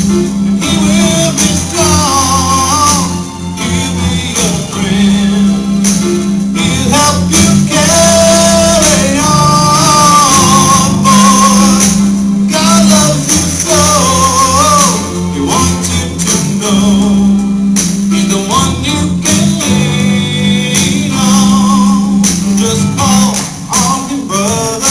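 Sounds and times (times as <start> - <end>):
christian song with band: 0.0 - 24.9.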